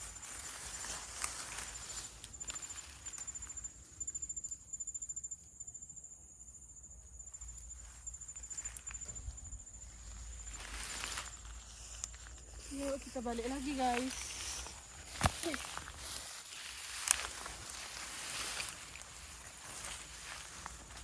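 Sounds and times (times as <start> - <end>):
soft footsteps: 0.0 - 3.6, 7.3 - 21.0
rustling in undergrowth: 0.0 - 4.6, 7.2 - 21.0
high-pitched insect trill: 0.0 - 21.0.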